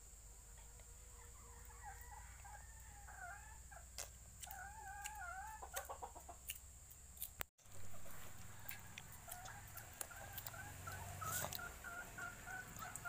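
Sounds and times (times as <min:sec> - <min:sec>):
chicken clucking and trilling: 0:01.1 - 0:06.6, 0:07.6 - 0:13.0.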